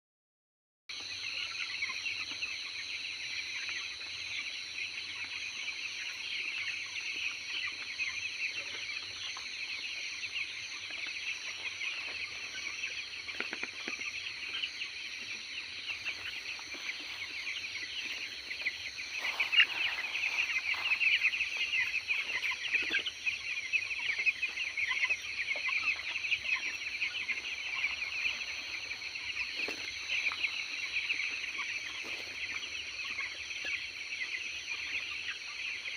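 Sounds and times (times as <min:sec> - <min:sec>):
chickens calling: 0:00.9 - 0:35.9.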